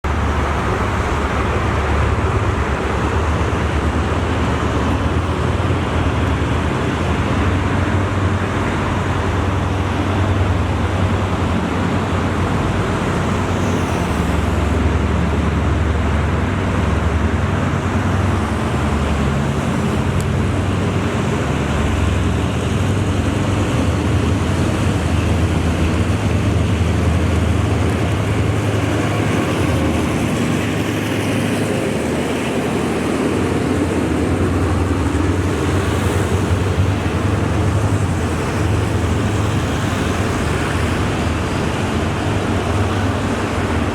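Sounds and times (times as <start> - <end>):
locomotive engine drone: 0.0 - 43.9.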